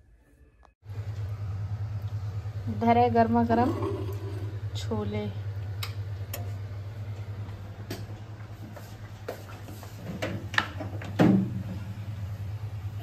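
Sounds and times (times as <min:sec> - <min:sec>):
steady low hum: 0:00.8 - 0:13.0.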